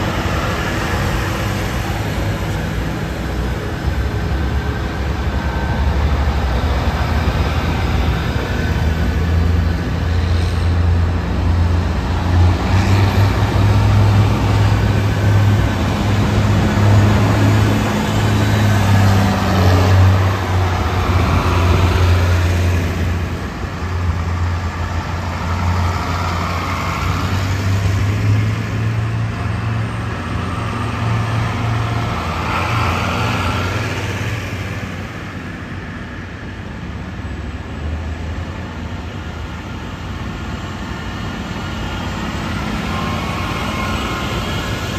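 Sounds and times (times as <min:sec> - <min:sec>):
tractor engines droning: 0:00.0 - 0:44.9.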